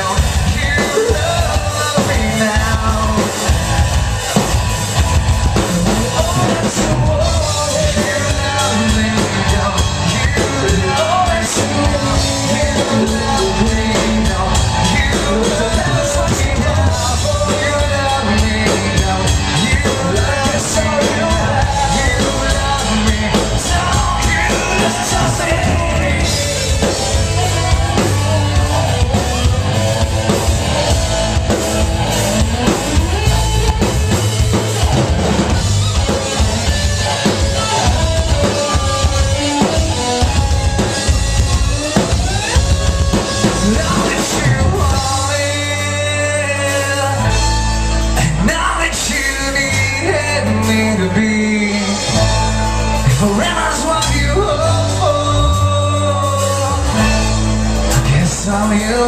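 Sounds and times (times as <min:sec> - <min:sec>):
bass guitar: 0:00.0 - 0:59.0
drum kit: 0:00.0 - 0:59.0
electric guitar: 0:00.0 - 0:59.0
lead vocal singing: 0:00.0 - 0:59.0.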